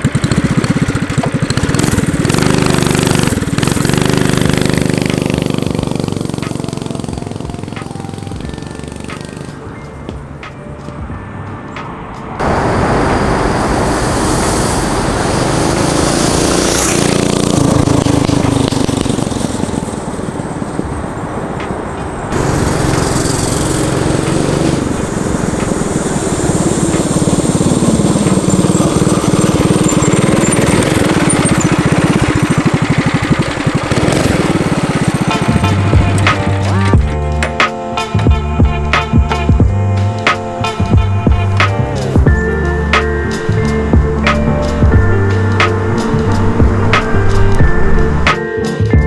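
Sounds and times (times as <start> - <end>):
small engine revving: 0.0 - 9.8, 12.4 - 48.6.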